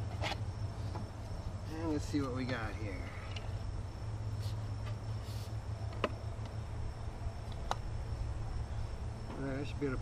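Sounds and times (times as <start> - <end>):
insect trill: 0.0 - 10.0.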